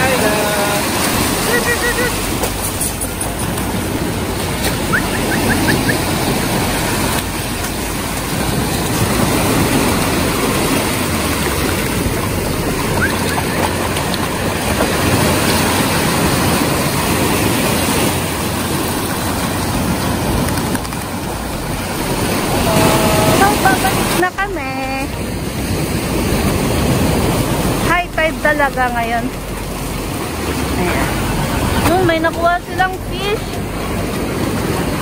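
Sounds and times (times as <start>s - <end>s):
small waves breaking: 0.0s - 35.0s.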